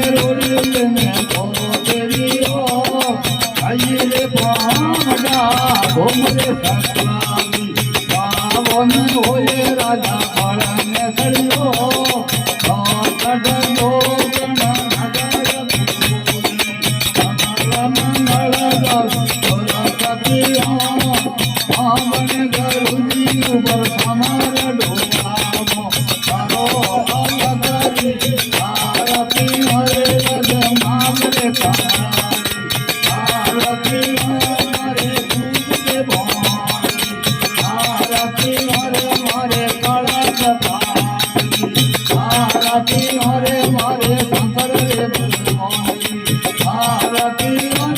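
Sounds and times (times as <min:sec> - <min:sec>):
jingling rattle percussion: 0:00.0 - 0:47.9.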